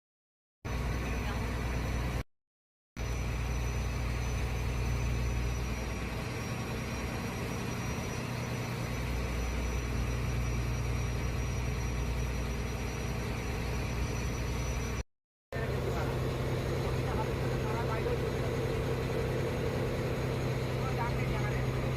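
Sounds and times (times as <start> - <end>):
boat engine low hum: 0.7 - 2.2, 3.0 - 21.9
thin steady high tone: 0.7 - 2.2, 3.0 - 15.0, 15.6 - 21.9.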